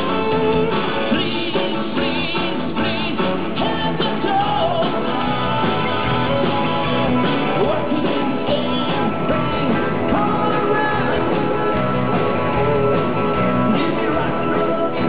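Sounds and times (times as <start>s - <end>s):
electric guitars: 0.0s - 15.0s
person singing: 0.0s - 15.0s.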